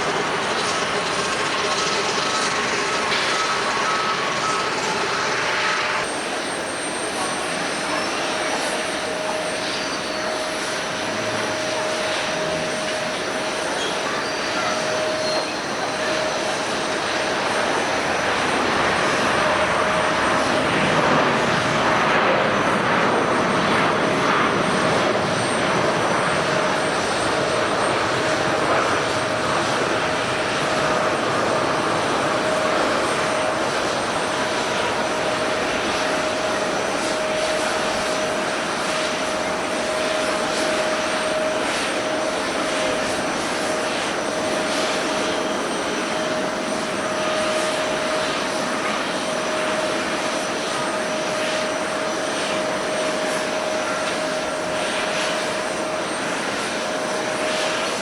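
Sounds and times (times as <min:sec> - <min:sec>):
jet engines roaring and whining: 0:00.0 - 0:58.0.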